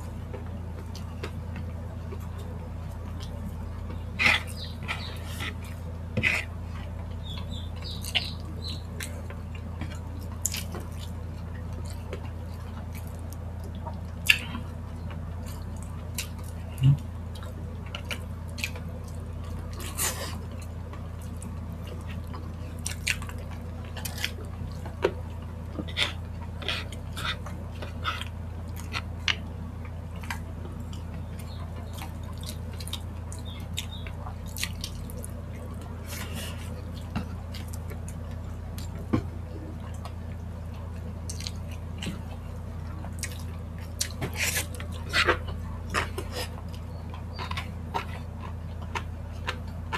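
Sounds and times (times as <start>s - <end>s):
wet eating sounds: 0.8s - 49.9s.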